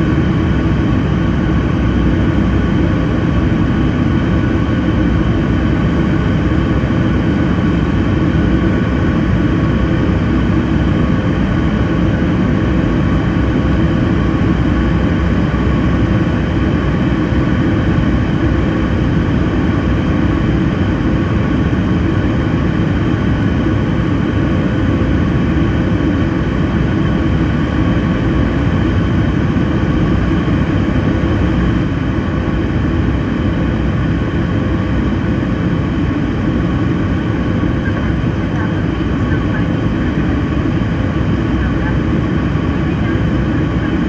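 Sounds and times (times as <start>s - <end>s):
jet engine and airflow roar: 0.0s - 44.0s.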